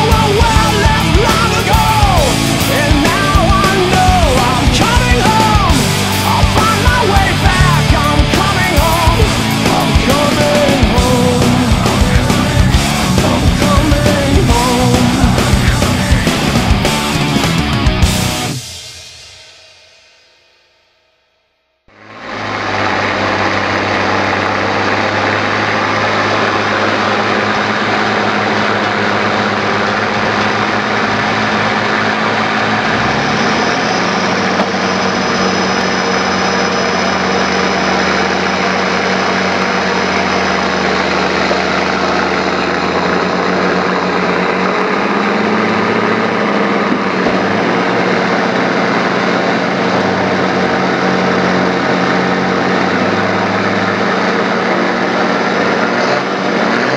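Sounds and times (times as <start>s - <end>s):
off-road engine running: 0.0s - 19.3s, 21.9s - 56.9s.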